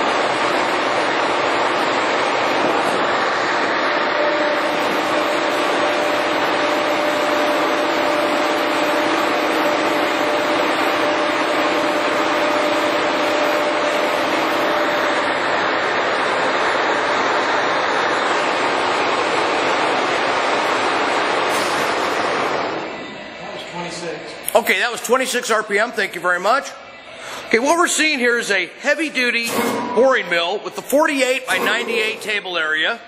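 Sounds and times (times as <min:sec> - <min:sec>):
boring mill mechanical whir: 0:00.0 - 0:23.7, 0:29.4 - 0:32.9
steady machine whine: 0:00.0 - 0:33.0.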